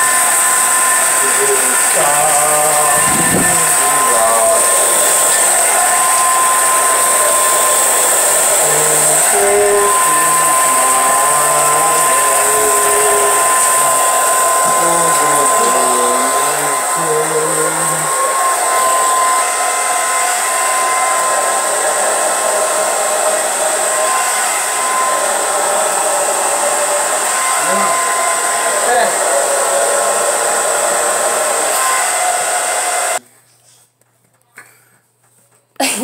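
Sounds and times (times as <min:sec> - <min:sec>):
hair dryer blowing: 0:00.0 - 0:33.2.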